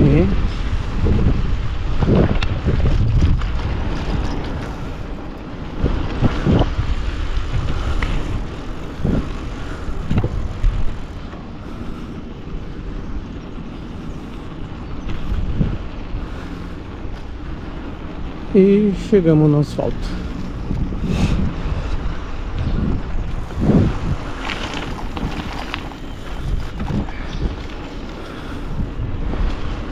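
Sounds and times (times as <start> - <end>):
steady rumble: 0.0 - 29.9
wind on microphone: 0.0 - 29.9.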